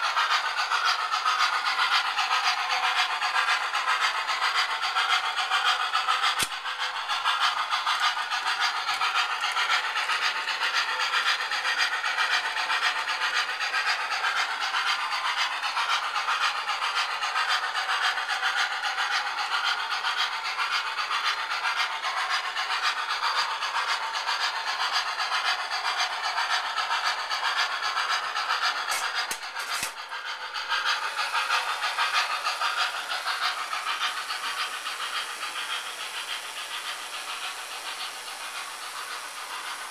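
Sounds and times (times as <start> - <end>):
model train running on track: 0.0 - 39.9.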